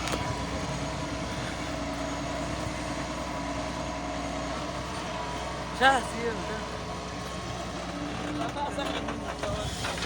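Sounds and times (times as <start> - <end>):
diesel machinery engine running: 0.0 - 10.0.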